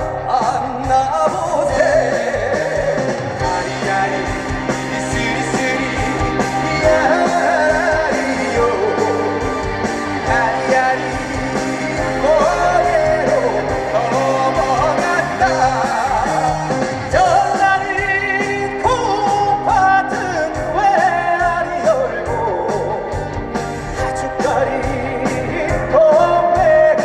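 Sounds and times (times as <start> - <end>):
amplified backing band: 0.0 - 27.0
person singing: 0.0 - 27.0.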